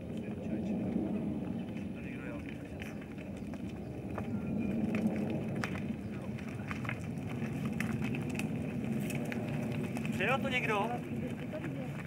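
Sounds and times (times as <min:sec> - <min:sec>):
bicycle tyres rumbling on dirt: 0:00.0 - 0:12.0
sharp clicks and crackles: 0:00.0 - 0:12.0
footsteps: 0:00.1 - 0:12.0.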